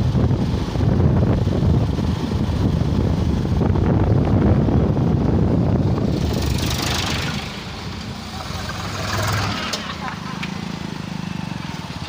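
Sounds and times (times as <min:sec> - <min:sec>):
wind buffeting microphone: 0:00.0 - 0:09.7
motorcycle engine: 0:00.0 - 0:12.0.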